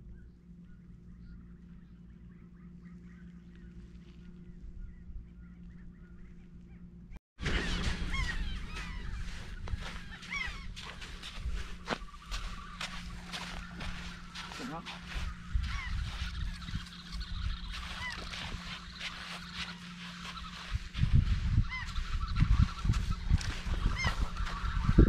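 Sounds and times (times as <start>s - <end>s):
birds calling: 0.0s - 25.0s
steady low hum: 0.0s - 25.0s.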